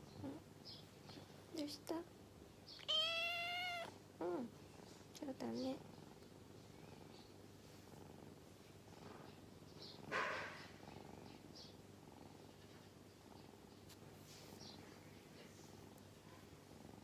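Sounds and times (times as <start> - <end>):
kitten purring: 0.1 - 2.1, 2.7 - 17.0.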